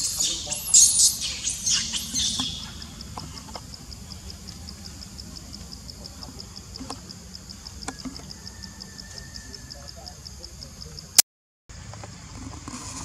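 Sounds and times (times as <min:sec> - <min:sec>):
high-pitched chirping calls: 0:00.0 - 0:11.1
pulsing insect trill: 0:00.0 - 0:13.0.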